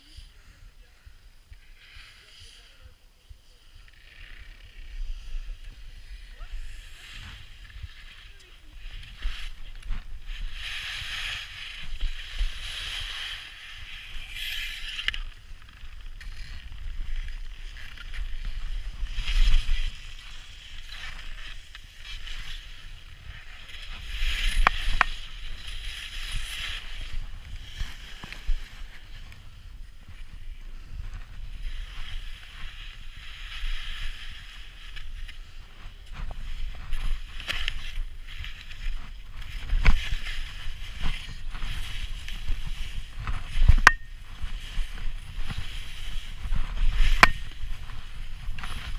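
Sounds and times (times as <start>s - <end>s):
wind rumbling on microphone: 0.0s - 48.9s
skis scraping over snow: 1.6s - 48.9s.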